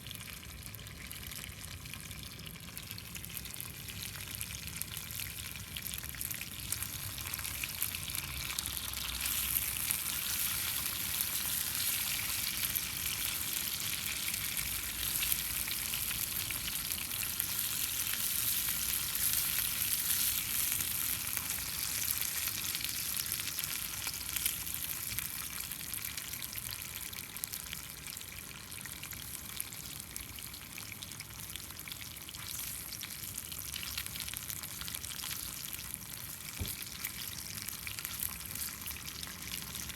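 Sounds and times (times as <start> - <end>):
food sizzling in a pan: 3.0 - 39.9.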